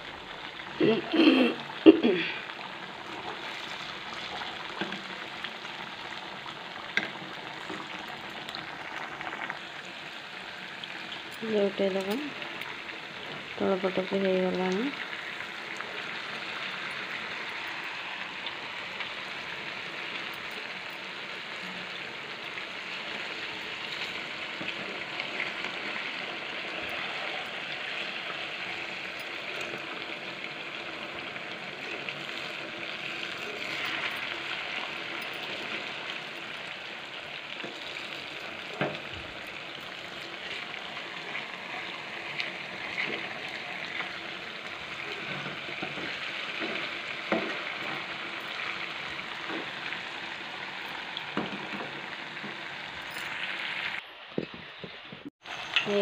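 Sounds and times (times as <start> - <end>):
fritters sizzling in hot oil: 0.0 - 54.0, 55.0 - 56.0.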